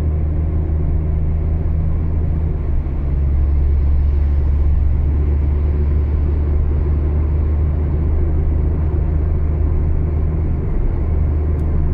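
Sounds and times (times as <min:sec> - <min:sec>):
car driving on highway: 0:00.0 - 0:11.9.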